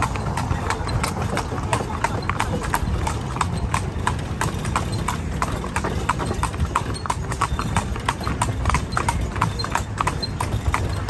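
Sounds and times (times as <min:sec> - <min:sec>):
horse hooves clip-clopping on road: 0:00.0 - 0:11.0.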